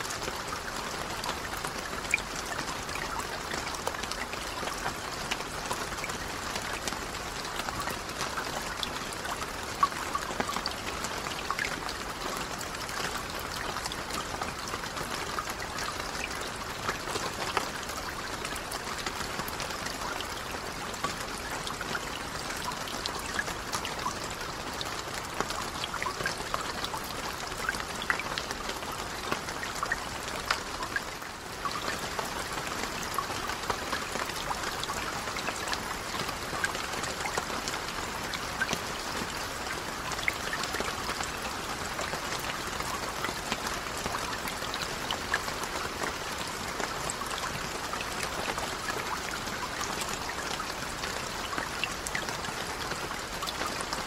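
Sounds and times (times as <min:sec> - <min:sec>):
raindrops splashing on water: 0:00.0 - 0:54.0.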